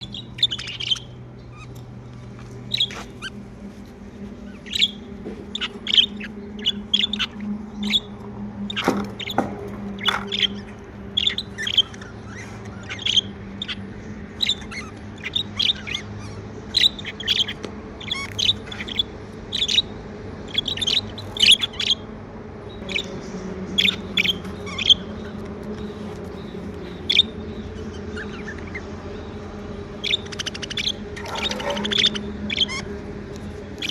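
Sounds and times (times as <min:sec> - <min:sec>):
budgerigars chirping: 0:00.0 - 0:01.9, 0:02.7 - 0:03.4, 0:04.3 - 0:19.9, 0:20.5 - 0:22.1, 0:22.7 - 0:33.0
steady low hum: 0:00.0 - 0:33.9.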